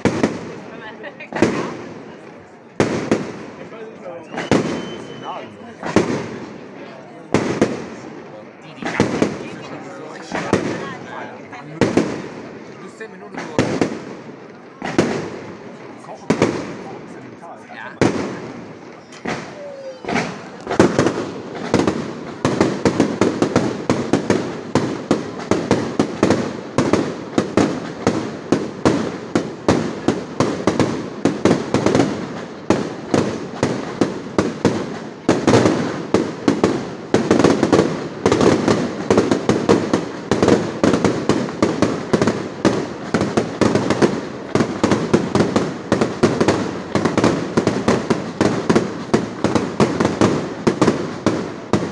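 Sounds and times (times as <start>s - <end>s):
fireworks bangs and crackle: 0.0s - 51.9s.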